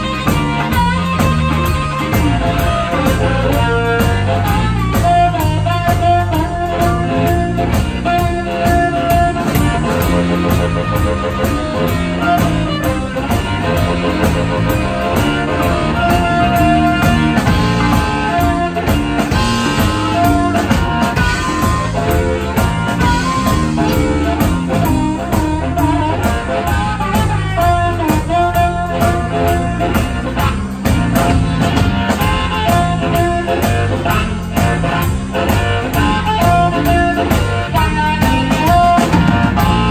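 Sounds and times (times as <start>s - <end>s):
blues harmonica: 0.0s - 39.9s
drums steady beat: 0.0s - 39.9s
electric bass: 0.0s - 39.9s
electric guitar: 0.0s - 39.9s.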